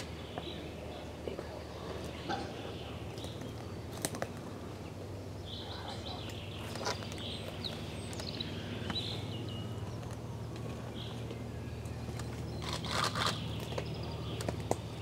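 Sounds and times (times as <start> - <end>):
boar foraging on stony ground: 0.0 - 15.0
steady low hum: 0.0 - 15.0.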